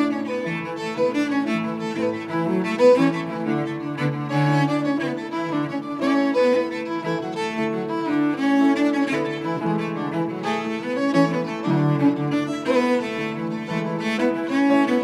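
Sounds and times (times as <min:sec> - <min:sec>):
fiddle and cello bowing a tune: 0:00.0 - 0:15.0.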